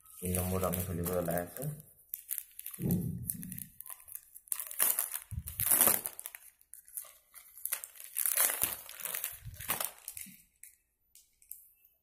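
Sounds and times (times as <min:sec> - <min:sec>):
plastic bag crinkling: 0:00.1 - 0:11.6.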